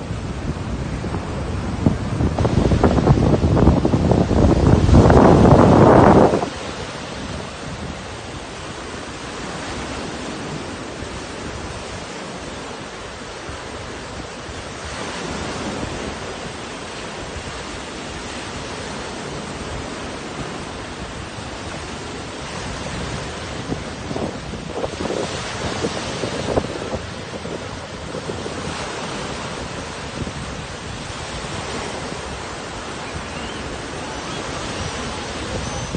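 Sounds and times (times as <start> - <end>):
surf breaking on beach: 0.0 - 35.9
wind buffeting microphone: 0.0 - 35.9.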